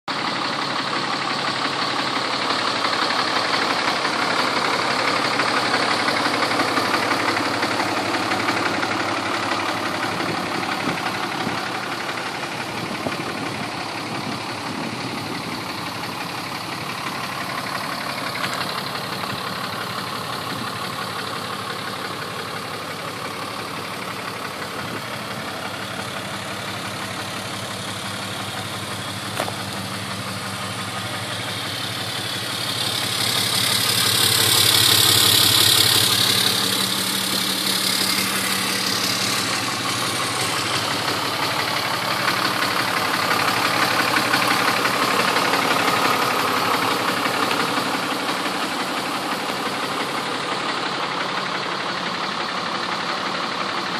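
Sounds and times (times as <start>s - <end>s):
pickup engine idling: 0.1s - 53.9s.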